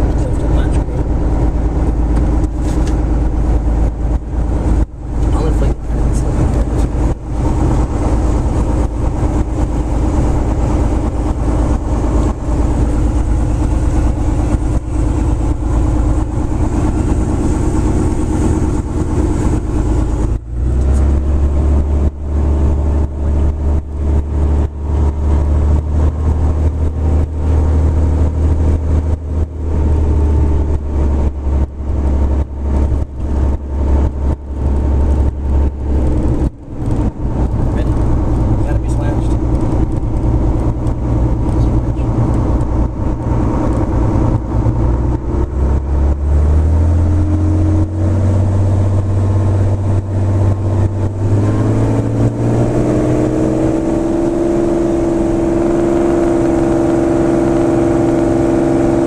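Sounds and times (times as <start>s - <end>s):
aircraft engine idling: 0.0s - 52.4s.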